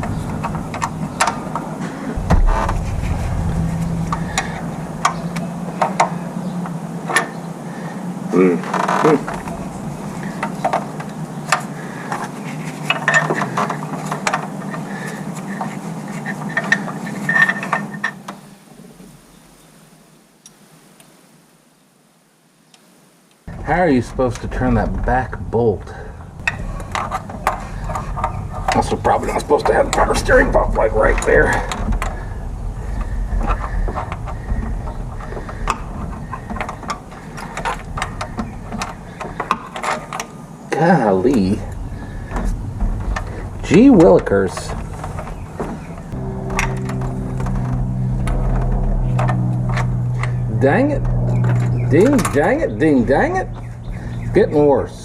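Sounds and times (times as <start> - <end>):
steady low hum: 0.0 - 18.1, 23.5 - 55.0.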